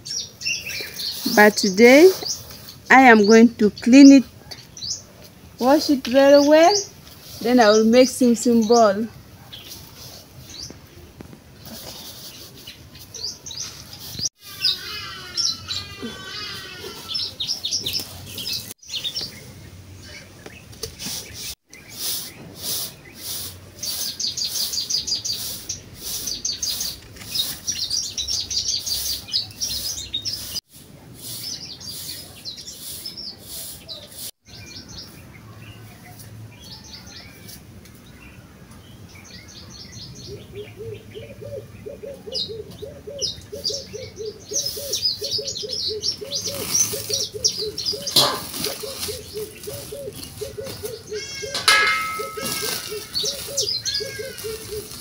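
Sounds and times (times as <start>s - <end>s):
birds chirping and singing: 0.0s - 11.0s, 11.6s - 30.6s, 31.2s - 55.0s.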